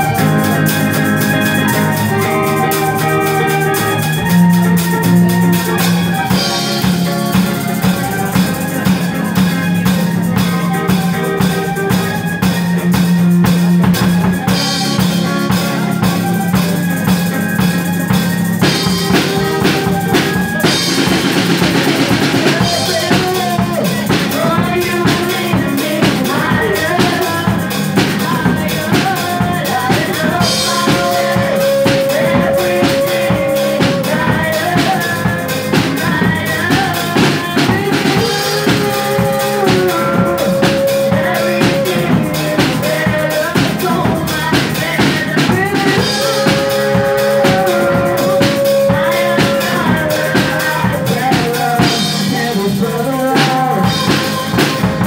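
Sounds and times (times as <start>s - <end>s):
drum beat: 0.0s - 55.0s
electric guitar: 0.0s - 55.0s
keyboard: 0.0s - 55.0s
voices singing: 0.0s - 55.0s.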